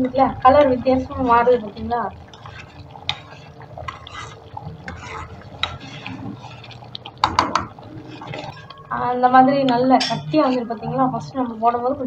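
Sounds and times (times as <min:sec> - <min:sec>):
ladle stirring thick mixture: 0:00.0 - 0:11.6.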